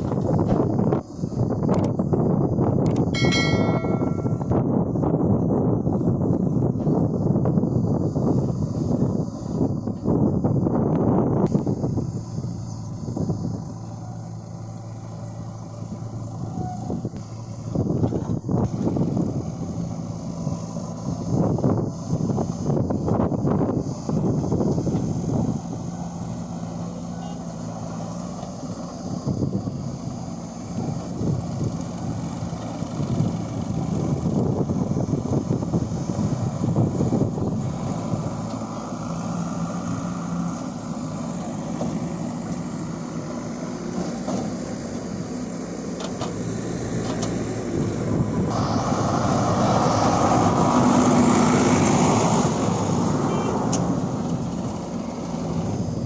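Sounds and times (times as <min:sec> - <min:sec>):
diesel engine working under load: 0:00.0 - 0:56.0.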